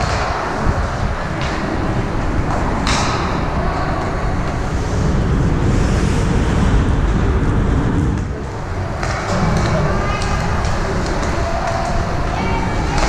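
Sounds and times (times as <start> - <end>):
arena rumbling background noise: 0.0 - 13.0.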